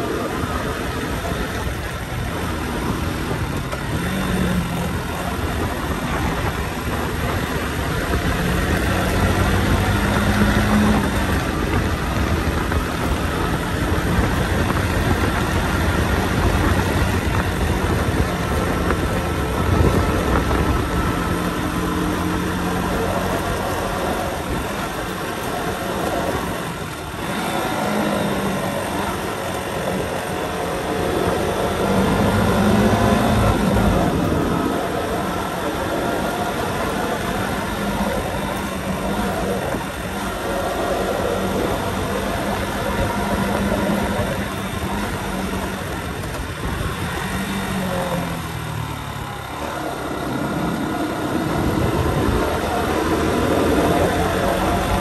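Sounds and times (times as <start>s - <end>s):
wind on microphone: 0.0s - 48.9s, 49.5s - 55.0s
motorcycle engine revving: 0.0s - 55.0s.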